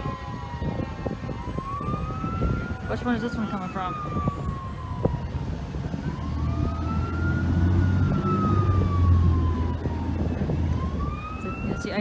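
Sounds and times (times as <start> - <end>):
engine rumble: 0.0 - 12.0
fire truck siren wailing: 0.0 - 12.0.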